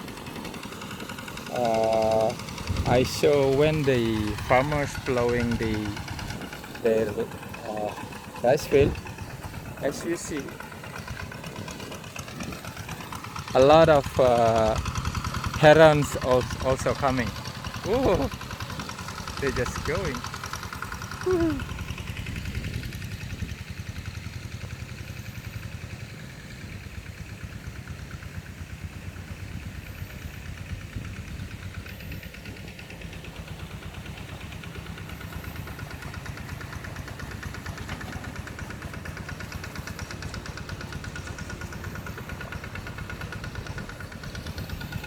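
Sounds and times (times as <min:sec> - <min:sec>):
plowing machine engine running: 0:00.0 - 0:45.0.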